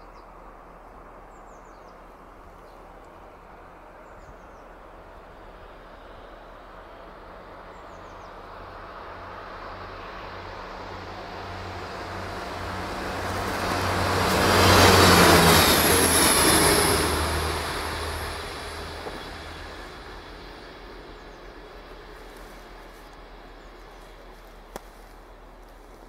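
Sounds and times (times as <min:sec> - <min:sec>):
diesel railcar engine drone: 0:00.0 - 0:26.0
train wheels rumbling on rails: 0:02.8 - 0:26.0.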